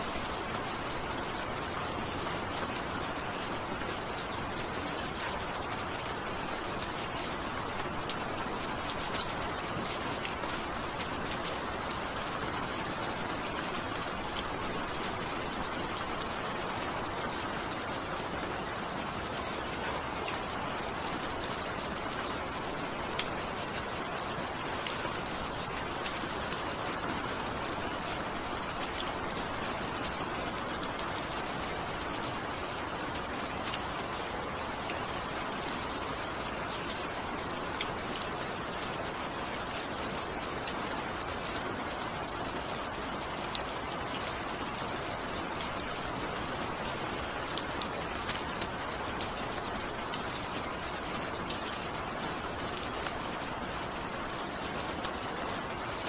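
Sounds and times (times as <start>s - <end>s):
single raindrops ticking: 0.0s - 56.0s.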